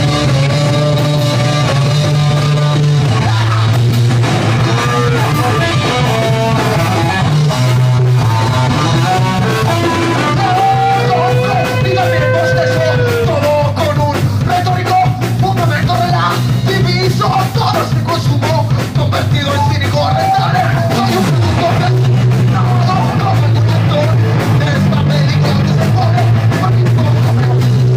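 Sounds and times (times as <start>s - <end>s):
person singing: 0.0s - 27.9s
punk rock band playing: 0.0s - 27.9s.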